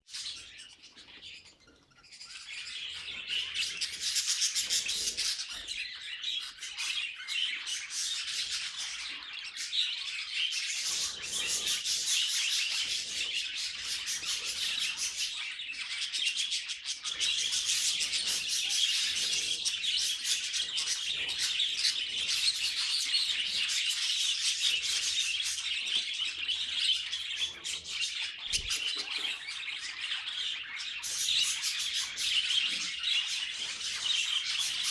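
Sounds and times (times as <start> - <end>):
budgerigars chirping and warbling: 0.1 - 34.9.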